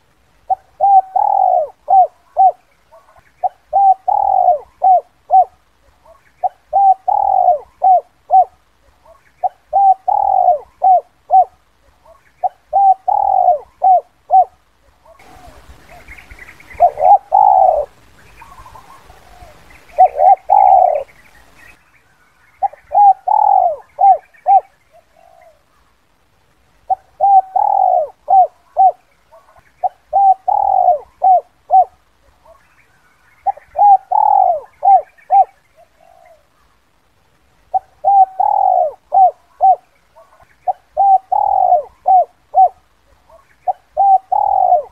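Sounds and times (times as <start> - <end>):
dove cooing: 0.0 - 21.6, 22.6 - 25.9, 26.8 - 32.7, 33.4 - 36.8, 37.6 - 44.9
light hiss: 0.0 - 44.9
small birds chirping: 0.0 - 44.9.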